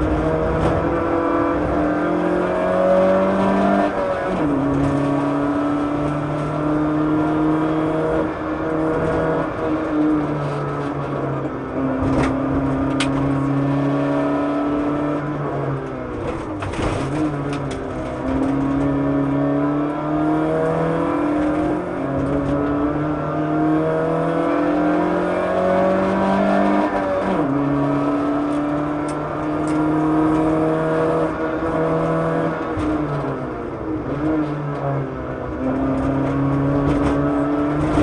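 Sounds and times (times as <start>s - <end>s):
rally car engine at high revs: 0.0s - 38.0s.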